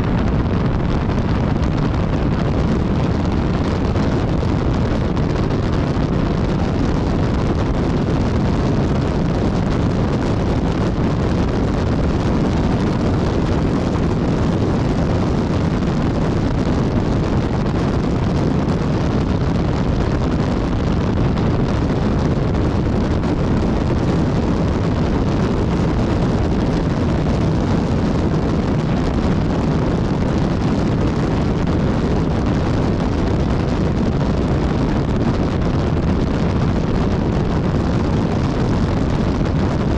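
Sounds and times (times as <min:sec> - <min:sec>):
motorcycle running: 0:00.0 - 0:39.8
wind buffeting microphone: 0:00.0 - 0:39.9.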